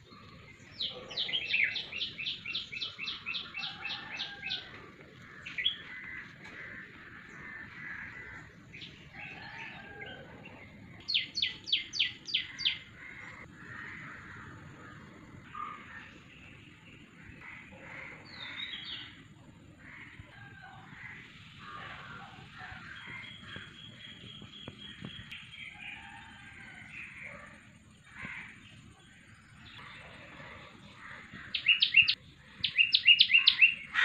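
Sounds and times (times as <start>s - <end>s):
birds chirping softly: 0.0s - 34.0s.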